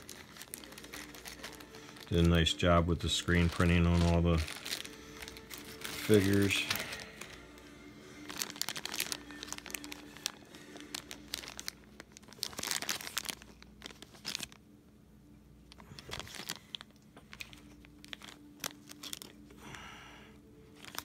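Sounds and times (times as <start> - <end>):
plastic bag crinkling: 0.0 - 14.6, 15.6 - 19.6, 20.7 - 21.0.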